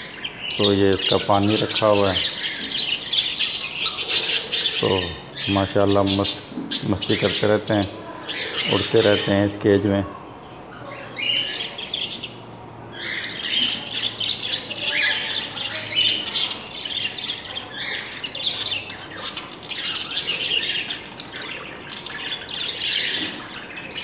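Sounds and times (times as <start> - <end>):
budgerigars chirping and squawking: 0.0 - 10.1, 10.8 - 24.0.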